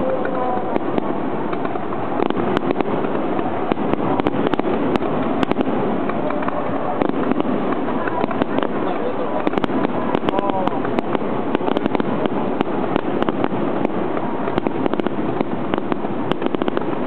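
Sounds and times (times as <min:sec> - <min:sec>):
firework shells bursting: 0:00.0 - 0:17.0
sharp crackling pops: 0:00.0 - 0:17.0.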